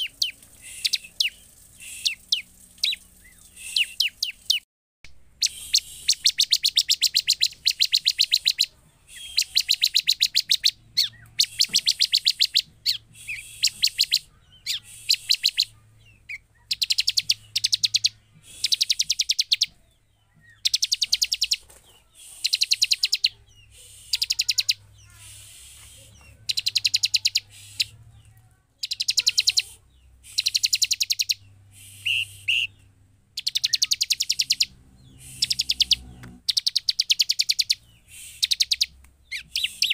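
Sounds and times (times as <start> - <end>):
bird singing rapid high notes: 0.0 - 4.6, 5.3 - 28.1, 28.8 - 39.9.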